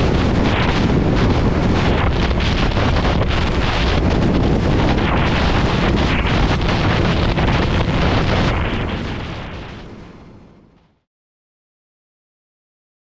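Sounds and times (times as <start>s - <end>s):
heavy wind buffeting microphone: 0.0s - 10.8s.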